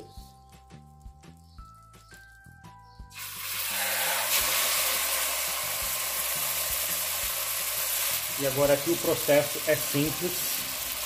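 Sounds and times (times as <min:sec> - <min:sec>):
meat searing sizzle: 0:00.0 - 0:11.0
soft background music: 0:00.0 - 0:11.0.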